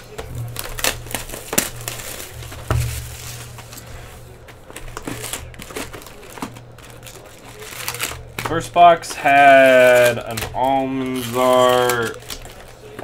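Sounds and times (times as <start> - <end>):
plastic shrink wrap tearing: 0.0 - 13.0.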